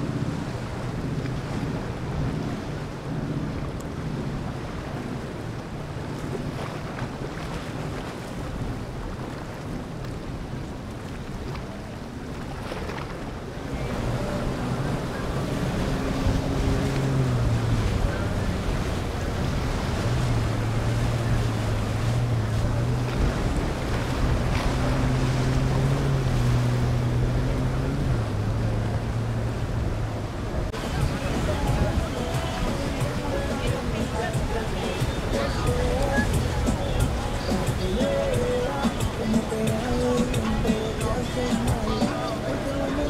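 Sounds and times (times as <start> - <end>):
boat engines running: 0.0 - 43.0
water washing in boat wake: 0.0 - 43.0
wind buffeting microphone: 0.0 - 43.0.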